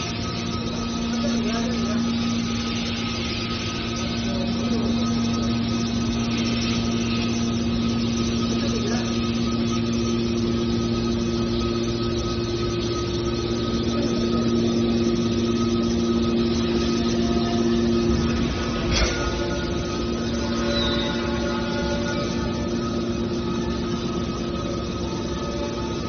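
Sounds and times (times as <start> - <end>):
metal baler machine hum: 0.0 - 26.0.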